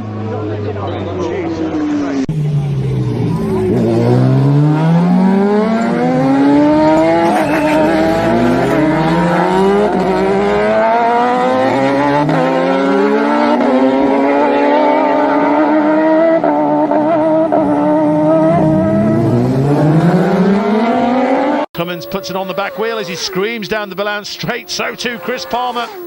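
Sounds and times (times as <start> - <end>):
motorbike engines accelerating: 0.0 - 26.0.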